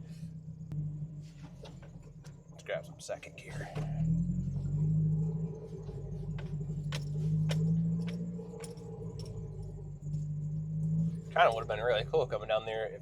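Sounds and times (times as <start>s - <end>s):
engine running at low speed: 0.0s - 13.0s.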